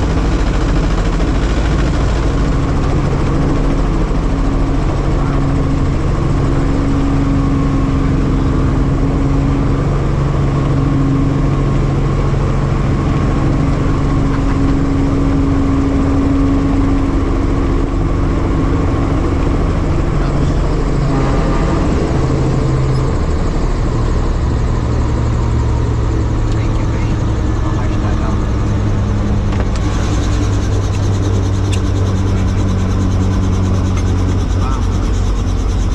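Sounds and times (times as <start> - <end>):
helicopter engine and rotor hum: 0.0 - 35.9.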